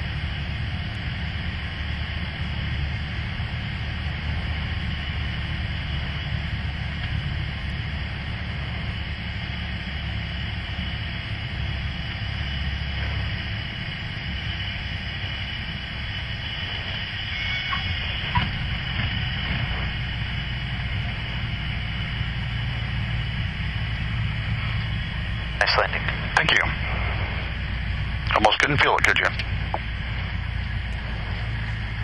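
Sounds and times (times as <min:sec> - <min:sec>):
airplane engine and propeller droning: 0:00.0 - 0:32.0.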